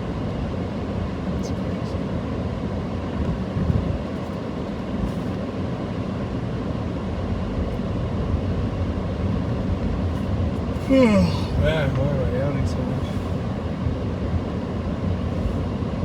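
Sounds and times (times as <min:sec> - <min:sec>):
car interior road noise: 0:00.0 - 0:16.0.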